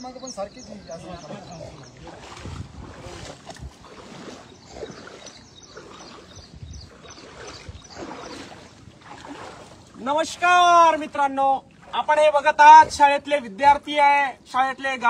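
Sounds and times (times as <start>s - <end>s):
water sloshing and splashing: 0.0s - 14.5s.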